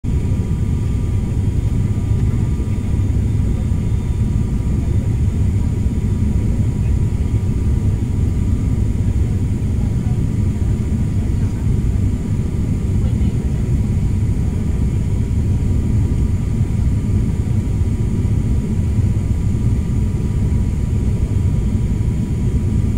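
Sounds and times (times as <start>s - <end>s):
airliner engines droning: 0.0s - 22.9s.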